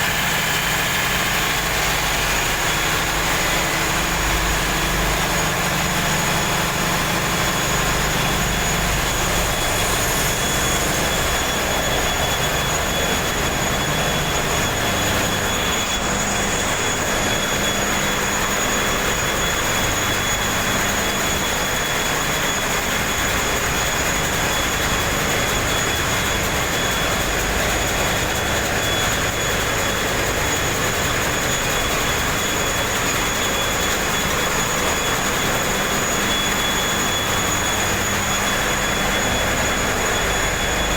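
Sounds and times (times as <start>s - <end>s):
thin high whine: 0.0s - 40.9s.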